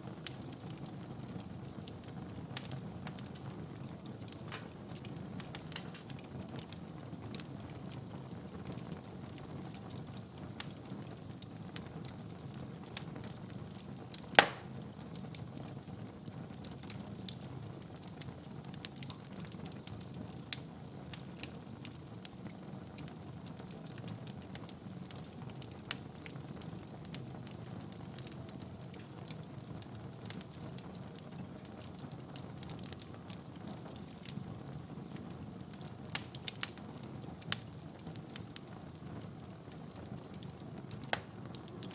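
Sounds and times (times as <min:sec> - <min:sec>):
fire popping: 0:00.0 - 0:41.9
wood fire crackling: 0:00.0 - 0:41.9.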